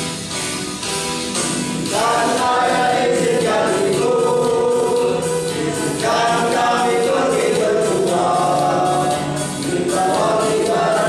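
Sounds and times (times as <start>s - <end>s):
instrumental accompaniment: 0.0s - 11.0s
choir singing a march: 1.9s - 11.0s.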